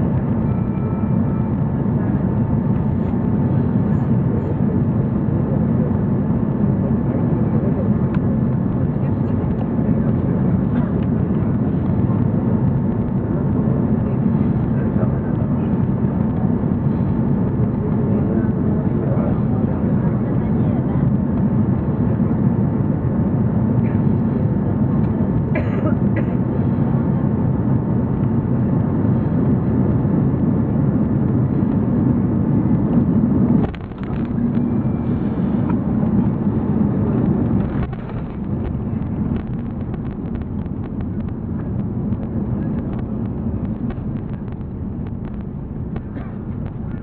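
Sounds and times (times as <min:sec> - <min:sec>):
aircraft engines and airflow rumble: 0:00.0 - 0:47.0.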